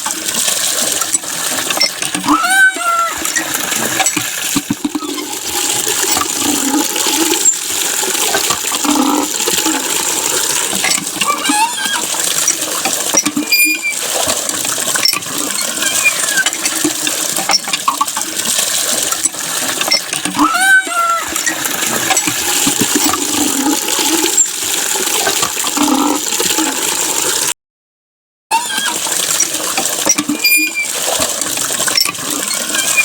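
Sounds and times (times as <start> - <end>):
clinking water drips: 0.0 - 27.5, 28.5 - 33.0
water spraying and splashing: 0.0 - 27.5, 28.6 - 33.0.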